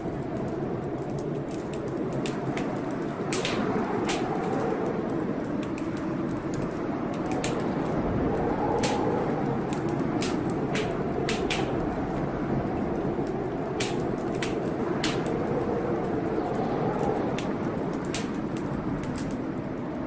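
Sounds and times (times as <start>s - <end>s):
fire crackling and popping: 0.0s - 20.0s
low rush of fire: 0.0s - 20.0s.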